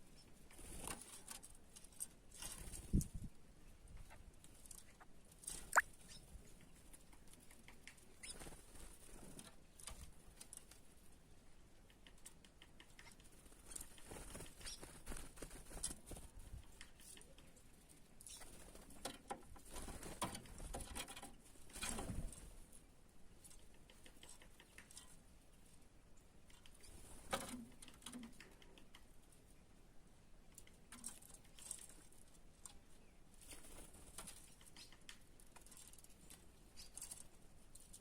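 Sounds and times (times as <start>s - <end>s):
birds pecking and hopping: 0.0s - 38.0s.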